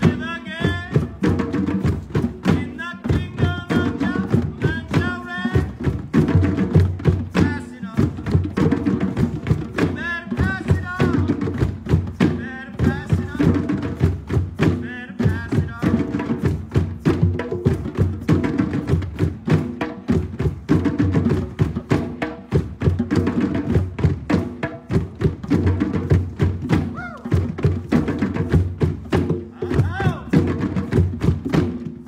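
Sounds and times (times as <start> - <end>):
hand drums playing: 0.0 - 32.0.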